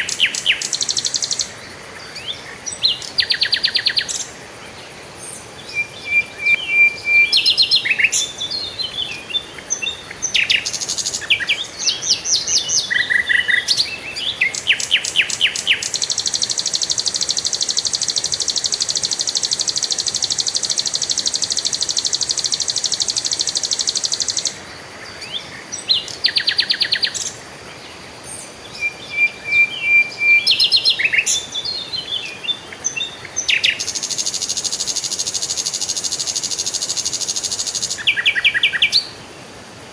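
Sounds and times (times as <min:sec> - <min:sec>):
songbirds chirping and trilling: 0:00.0 - 0:39.6.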